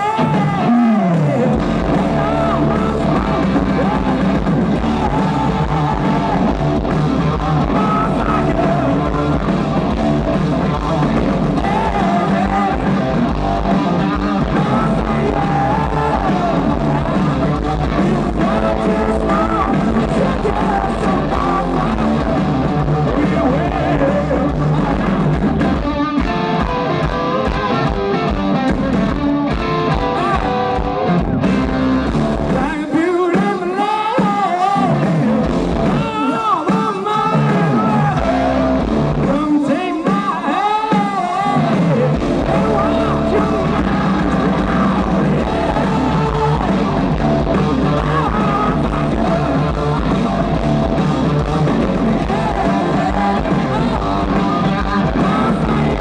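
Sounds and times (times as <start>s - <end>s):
person singing: 0.0s - 26.6s, 32.5s - 56.0s
drums: 0.0s - 56.0s
electric guitars: 0.0s - 56.0s
live rock band playing: 0.0s - 56.0s.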